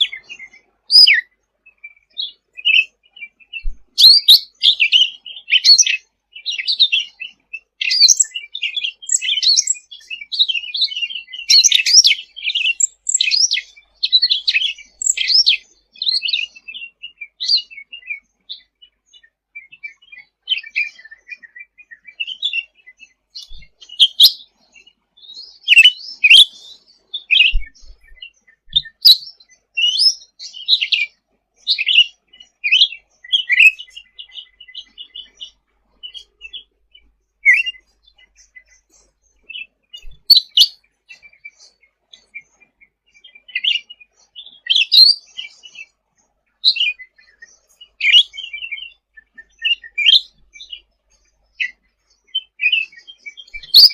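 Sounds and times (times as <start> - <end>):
songbird chirping and trilling: 0.0 - 53.9.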